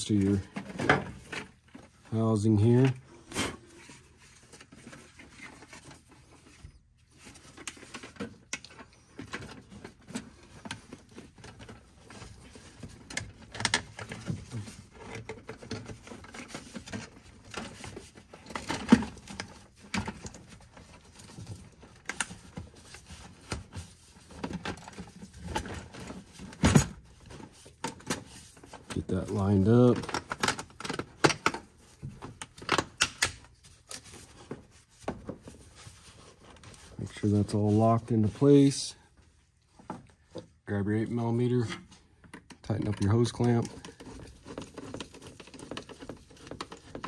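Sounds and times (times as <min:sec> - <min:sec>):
plastic rustling and scraping: 0:00.0 - 0:42.1, 0:42.7 - 0:47.0.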